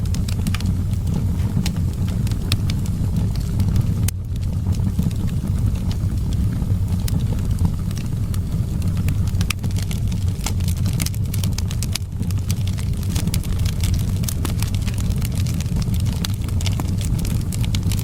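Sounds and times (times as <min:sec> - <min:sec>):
low rumble of wind: 0:00.0 - 0:18.0
wood fire crackling and popping: 0:00.0 - 0:18.0.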